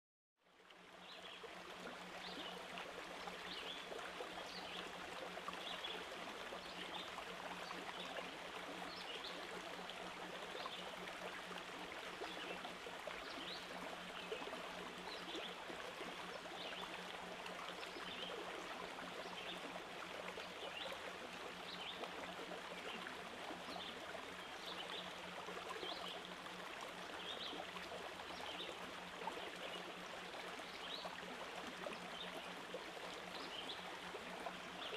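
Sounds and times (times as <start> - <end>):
running water: 0.6 - 34.9.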